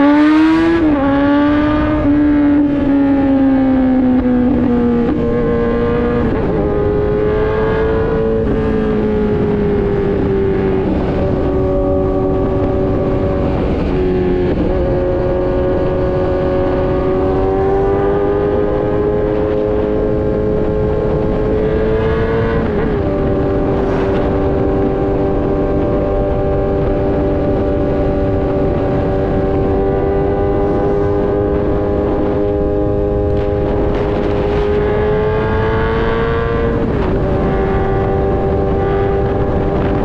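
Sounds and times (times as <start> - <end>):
motorcycle engine accelerating: 0.0 - 40.0
wind and road noise: 0.0 - 40.0.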